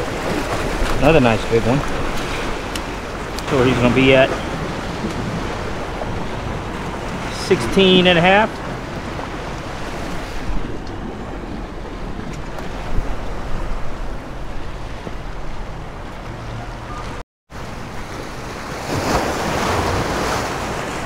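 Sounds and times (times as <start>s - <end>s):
surf washing over rocks: 0.0s - 21.0s
wind buffeting microphone: 0.0s - 21.0s.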